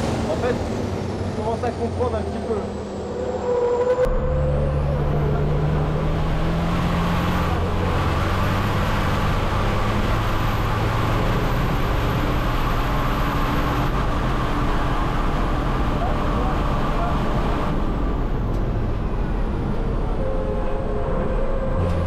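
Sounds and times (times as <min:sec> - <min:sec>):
diesel engine running hard: 0:00.0 - 0:22.0.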